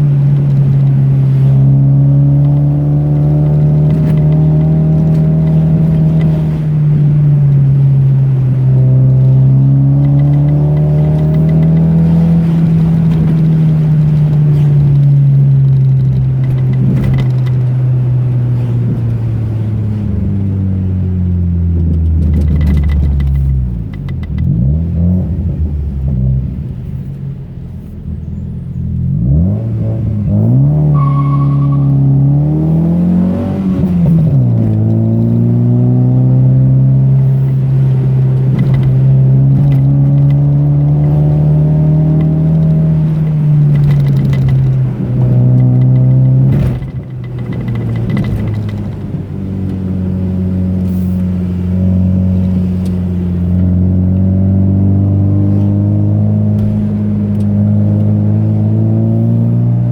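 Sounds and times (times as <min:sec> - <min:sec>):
car engine pulling through gears: 0:00.0 - 0:59.9
car rattling over bumps: 0:00.0 - 0:59.9.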